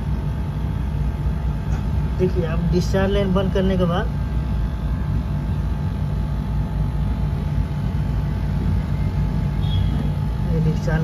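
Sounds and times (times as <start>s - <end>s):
air conditioner outdoor unit humming: 0.0s - 11.0s.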